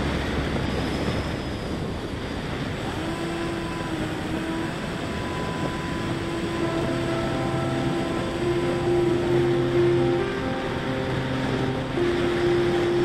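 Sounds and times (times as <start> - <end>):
faint steady tones: 0.0 - 13.0
motor and propeller drone: 0.0 - 13.0
rushing airflow: 0.0 - 13.0.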